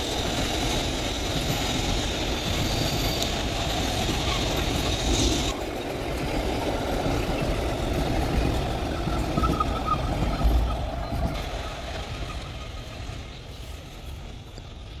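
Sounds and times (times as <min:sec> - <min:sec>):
train wagons rolling on rails: 0:00.0 - 0:15.0.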